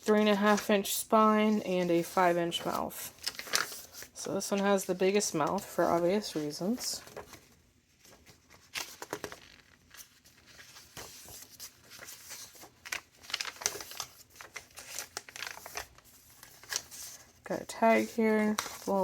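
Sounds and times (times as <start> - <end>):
paper pages rustling: 0.0 - 19.0.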